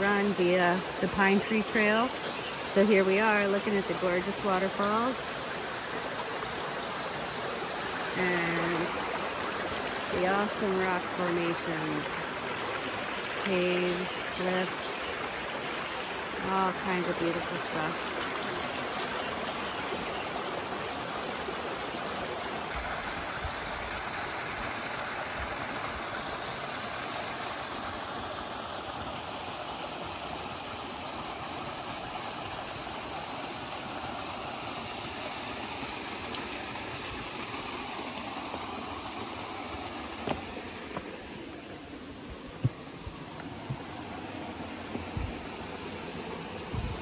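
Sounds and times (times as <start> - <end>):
creek water running over rocks: 0.0 - 47.0.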